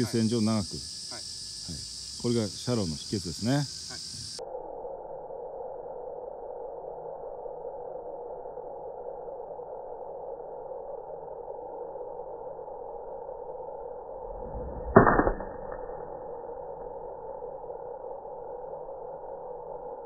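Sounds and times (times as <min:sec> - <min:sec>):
slowed low insect drone: 0:00.0 - 0:20.0.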